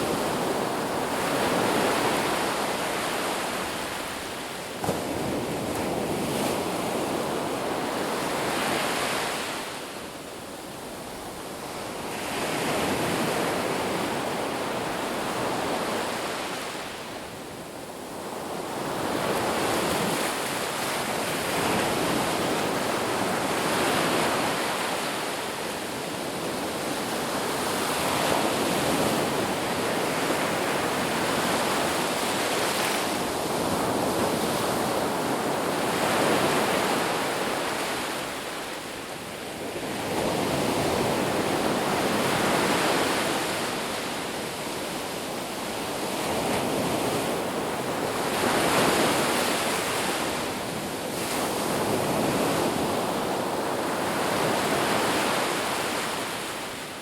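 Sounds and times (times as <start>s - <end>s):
sea waves surf: 0.0s - 57.0s.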